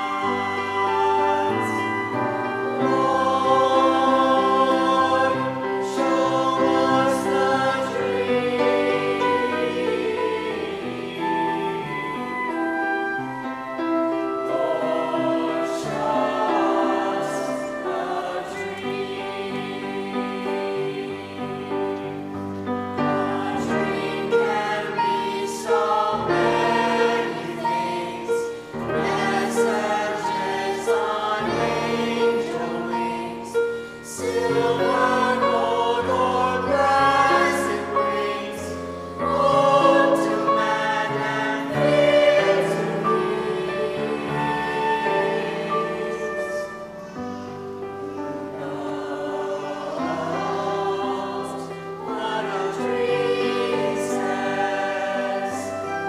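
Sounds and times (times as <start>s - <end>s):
choir singing: 0.0s - 56.0s
instrumental accompaniment: 0.0s - 56.0s.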